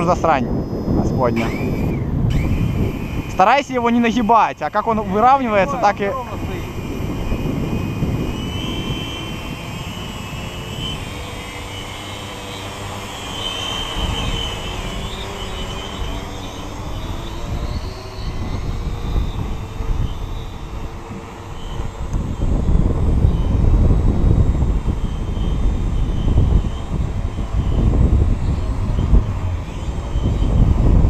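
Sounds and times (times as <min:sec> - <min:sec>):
drone propellers whining: 0:00.0 - 0:31.0
wind buffeting microphone: 0:00.0 - 0:31.0.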